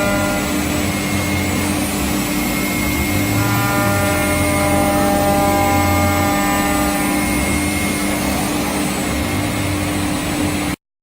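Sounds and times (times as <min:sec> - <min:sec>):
cnc router running: 0:00.0 - 0:10.8
spindle whine: 0:00.0 - 0:10.8.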